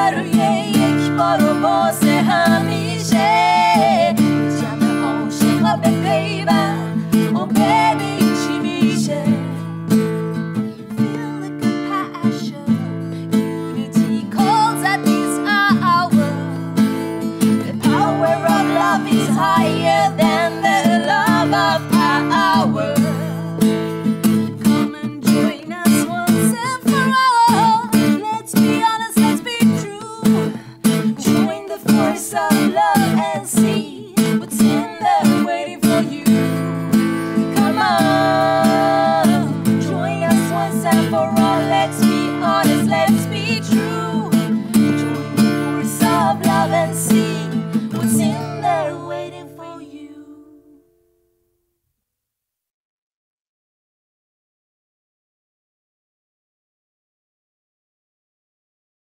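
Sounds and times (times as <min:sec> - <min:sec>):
women singing: 0:00.0 - 0:09.8, 0:10.8 - 0:23.5, 0:24.6 - 0:50.9
acoustic guitar strummed: 0:00.0 - 0:49.9.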